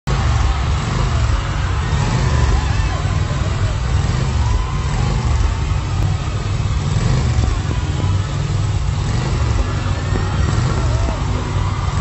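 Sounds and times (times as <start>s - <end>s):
arena crowd cheering: 0.0s - 12.0s
crowd cries: 0.1s - 12.0s.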